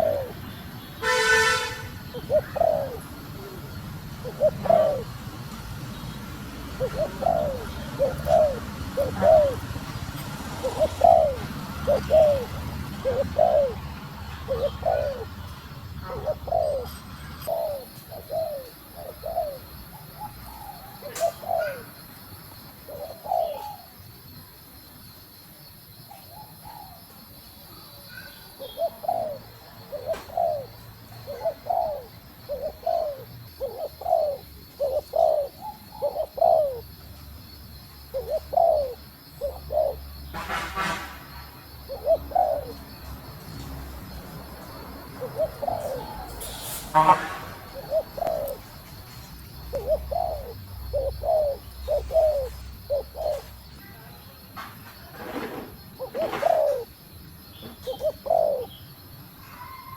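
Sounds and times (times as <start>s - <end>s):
dove cooing: 0.0s - 22.0s, 22.7s - 24.0s, 28.1s - 41.0s, 41.6s - 53.7s, 55.2s - 57.0s, 57.6s - 58.8s
harsh dove calls: 0.0s - 22.0s, 22.7s - 24.0s, 28.1s - 37.1s, 38.1s - 53.6s, 55.2s - 57.0s, 57.6s - 58.8s.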